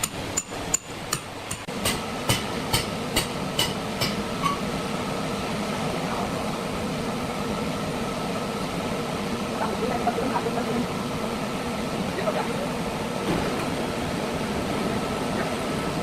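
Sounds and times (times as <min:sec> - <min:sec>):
machine hum with held tone: 0:01.7 - 0:16.0.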